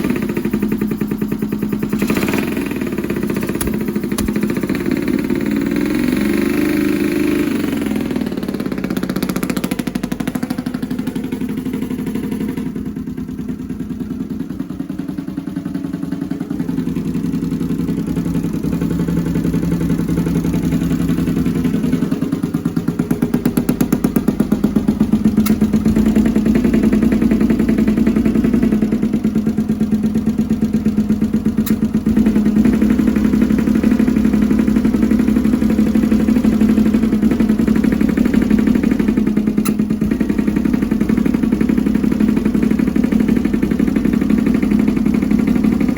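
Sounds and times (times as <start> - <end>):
motorcycle engine misfiring: 0.0 - 29.7, 30.3 - 45.9.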